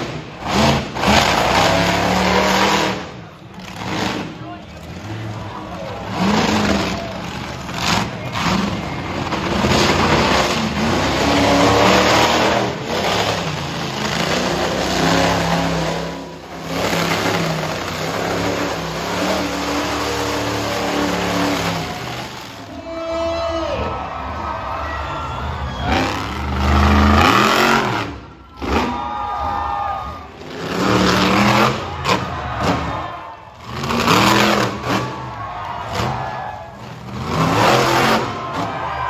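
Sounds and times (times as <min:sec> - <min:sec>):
monster truck engines revving: 0:00.0 - 0:39.0.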